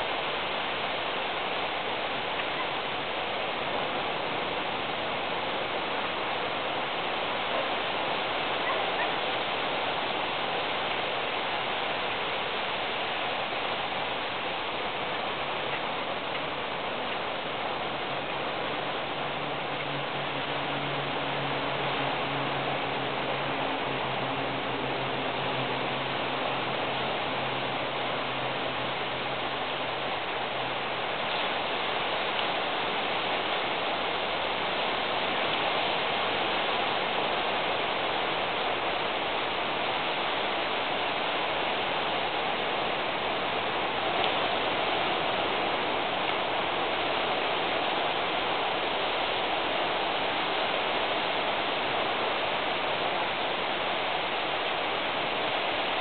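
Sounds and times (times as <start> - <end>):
low steady hum: 0.0 - 56.0
steady rain: 0.0 - 56.0.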